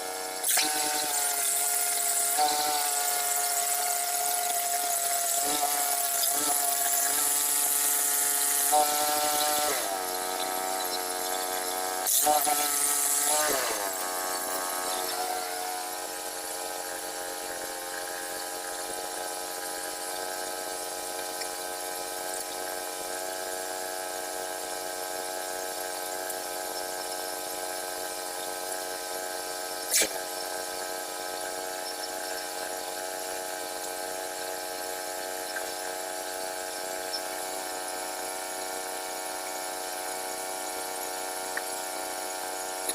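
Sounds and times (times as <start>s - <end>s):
small gas engine idling: 0.0s - 42.9s.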